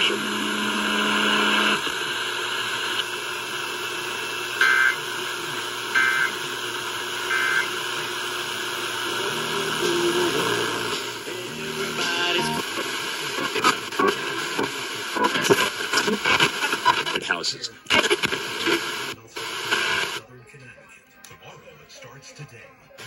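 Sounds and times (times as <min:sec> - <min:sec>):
music from radio: 0:00.0 - 0:23.0.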